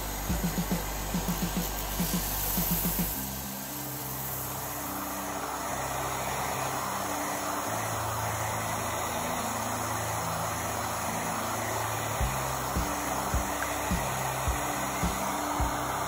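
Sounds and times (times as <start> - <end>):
disc sander grinding resin: 0.0 - 16.0.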